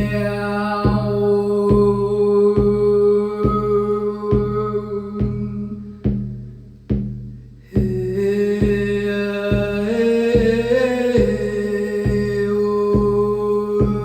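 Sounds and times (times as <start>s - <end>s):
drum beating steady pulse: 0.0s - 14.0s.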